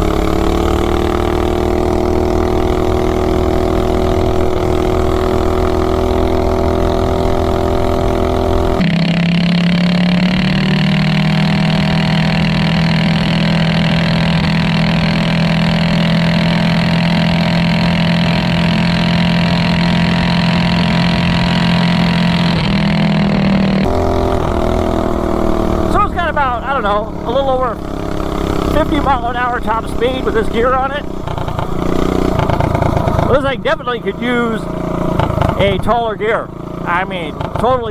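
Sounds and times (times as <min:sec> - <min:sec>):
single-cylinder engine running hard: 0:00.0 - 0:37.9.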